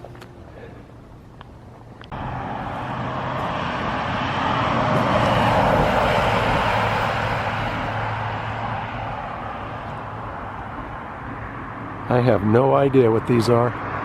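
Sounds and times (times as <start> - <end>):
vehicle engine and tyre noise: 0.0 - 14.0.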